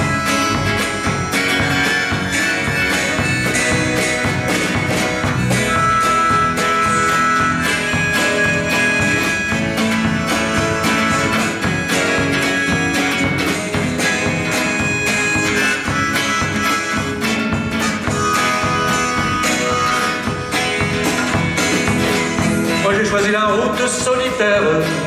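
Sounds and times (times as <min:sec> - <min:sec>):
electric bass: 0:00.0 - 0:22.9
acoustic guitar strumming: 0:00.0 - 0:25.0
drum kit beat: 0:00.0 - 0:25.0
held lead melody notes: 0:00.0 - 0:25.0.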